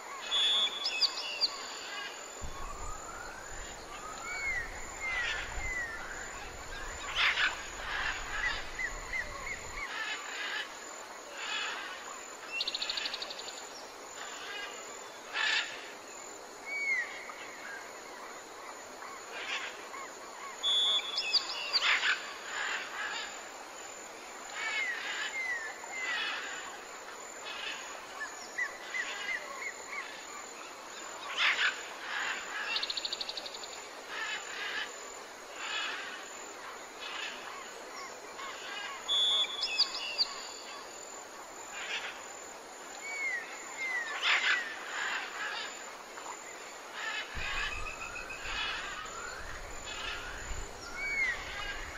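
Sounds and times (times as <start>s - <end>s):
steady background hiss: 0.0s - 51.9s.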